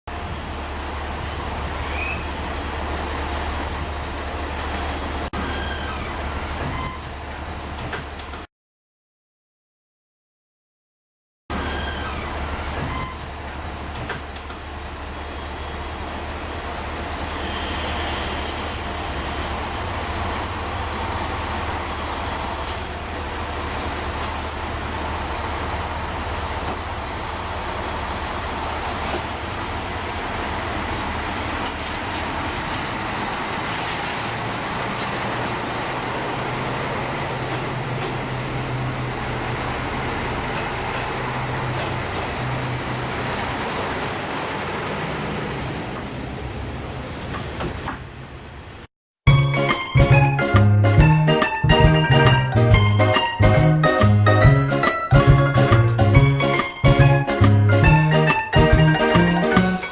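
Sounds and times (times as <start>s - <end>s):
diesel railcar droning: 0.1s - 8.5s, 11.5s - 59.9s.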